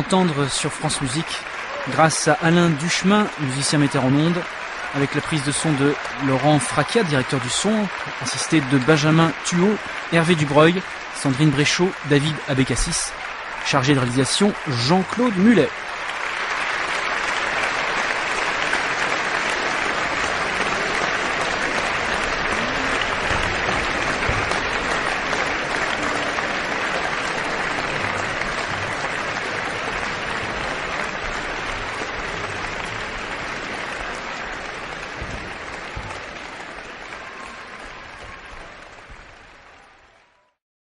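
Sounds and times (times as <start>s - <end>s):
audience applauding: 0.0s - 40.6s.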